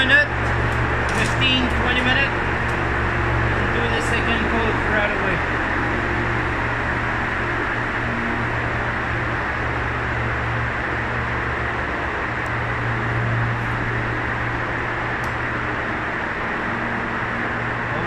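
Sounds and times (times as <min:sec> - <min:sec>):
low hum: 0:00.0 - 0:18.0
ventilation fans rushing: 0:00.0 - 0:18.0.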